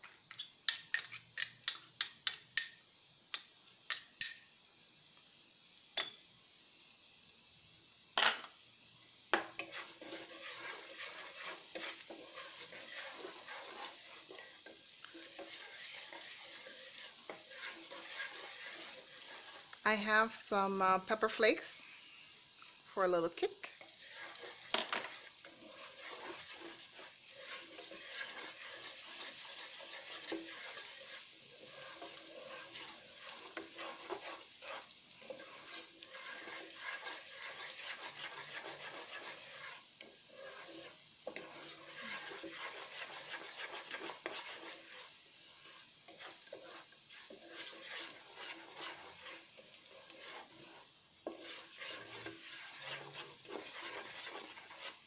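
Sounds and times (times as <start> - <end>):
garlic sizzling in hot oil: 0.0 - 55.0
wooden spatula scraping a pan: 9.3 - 55.0.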